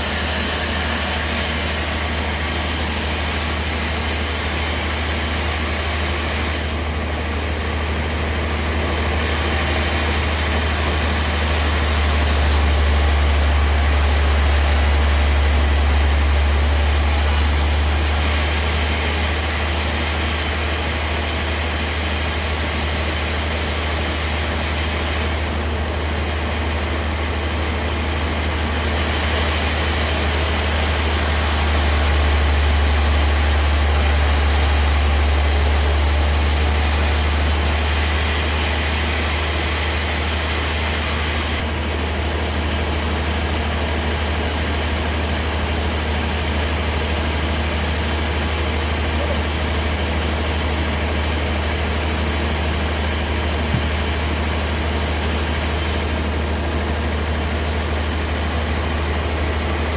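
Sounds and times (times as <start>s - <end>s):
low motor hum: 0.0s - 42.5s, 43.2s - 59.9s
bandsaw sawing timber: 0.0s - 59.9s.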